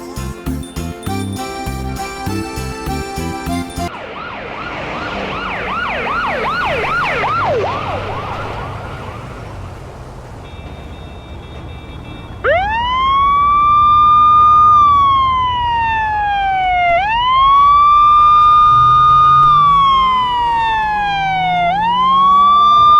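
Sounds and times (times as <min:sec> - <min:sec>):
siren wailing: 0:03.6 - 0:22.9.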